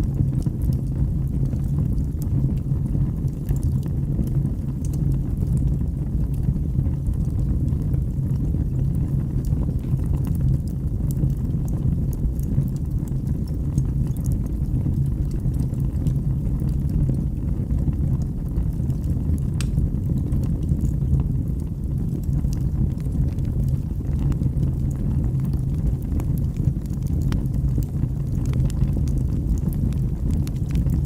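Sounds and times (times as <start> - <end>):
fire crackles and pops: 0.0 - 31.0
fireplace fire rumbling: 0.0 - 31.0.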